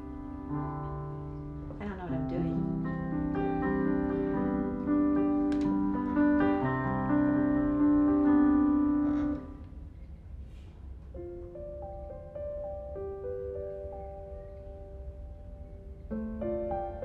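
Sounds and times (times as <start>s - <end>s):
digital piano played slowly: 0.0s - 10.4s, 11.0s - 17.0s.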